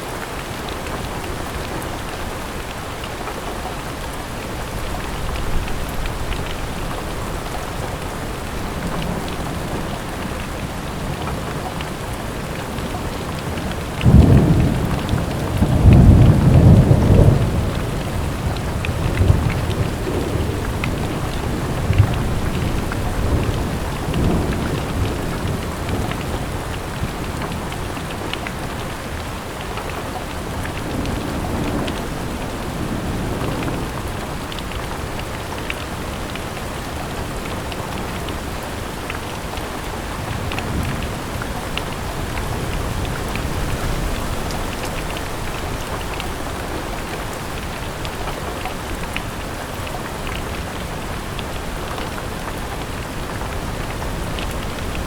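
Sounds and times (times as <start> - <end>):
rain drops ticking: 0.0 - 55.0.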